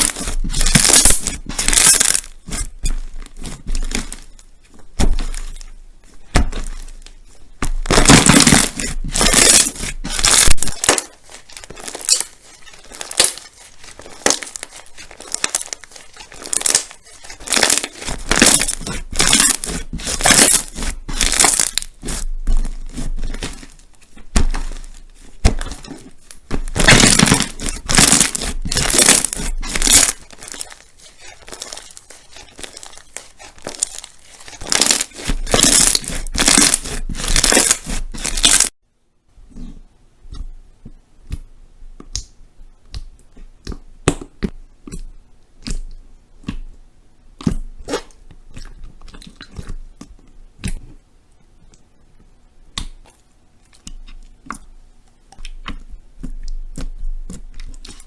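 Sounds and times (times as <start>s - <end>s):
crunchy slime crackling: 0.0s - 38.8s, 47.3s - 51.0s, 52.7s - 58.0s.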